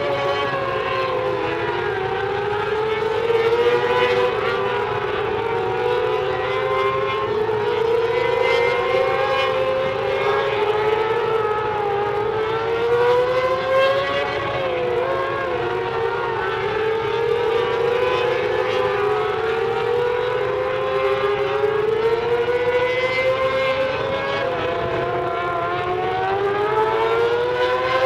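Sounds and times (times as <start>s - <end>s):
race car engines: 0.0s - 28.0s.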